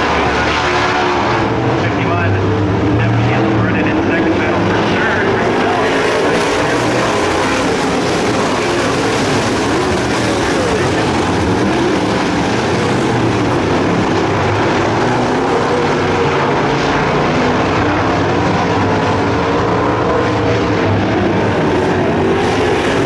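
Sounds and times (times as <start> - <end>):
race car engines at speed: 0.0 - 23.0.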